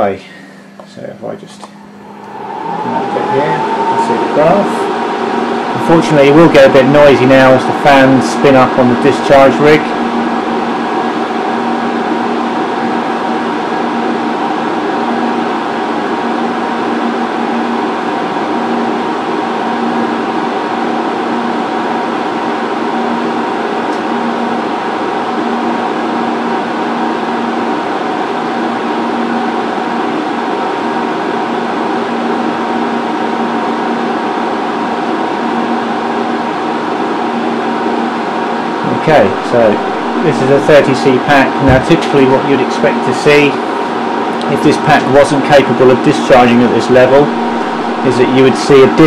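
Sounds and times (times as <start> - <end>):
cooling fans humming: 0.0 - 49.0.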